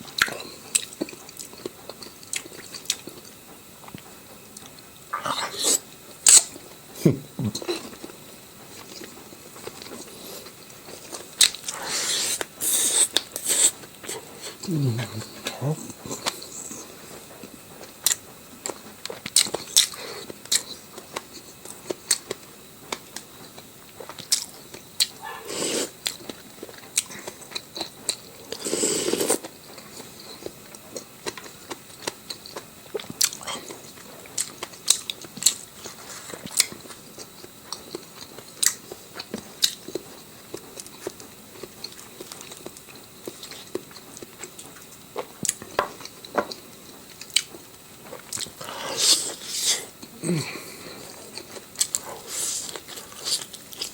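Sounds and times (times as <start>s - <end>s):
person crunching and chewing: 0.1s - 8.2s, 8.8s - 53.9s.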